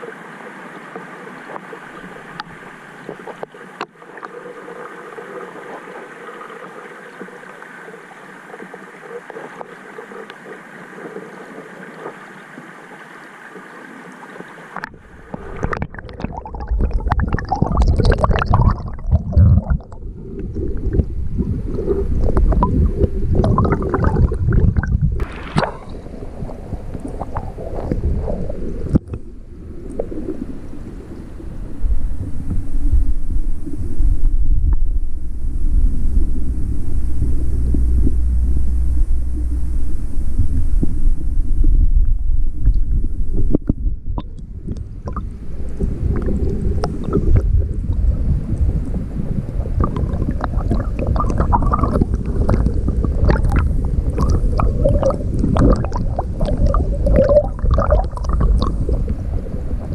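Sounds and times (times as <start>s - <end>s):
gurgling water rumble: 0.0s - 59.9s
underwater stream hiss: 0.0s - 59.9s.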